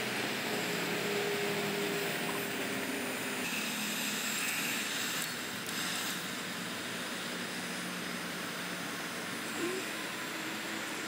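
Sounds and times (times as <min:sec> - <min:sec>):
heat gun fan blowing: 0:00.0 - 0:11.0.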